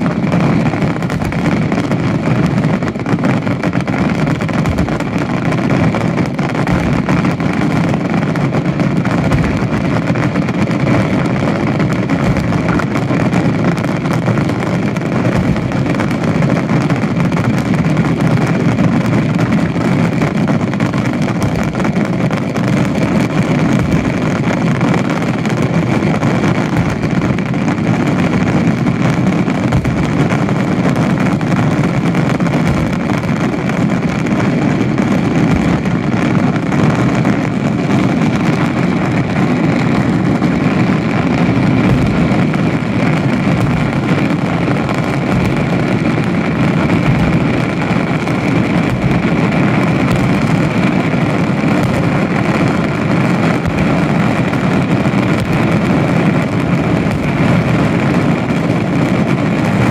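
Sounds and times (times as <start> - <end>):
fireworks barrage: 0.0 - 59.9.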